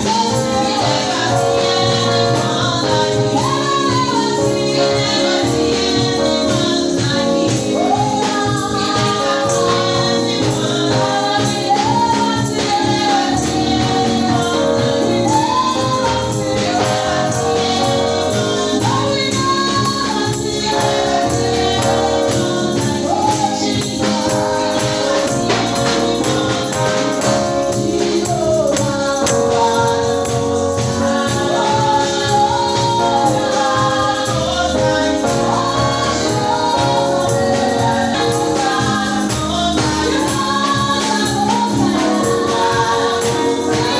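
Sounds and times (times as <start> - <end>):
choir singing gospel: 0.0 - 43.9
instrumental backing: 0.0 - 43.9
tambourine shaken and struck: 0.0 - 43.9.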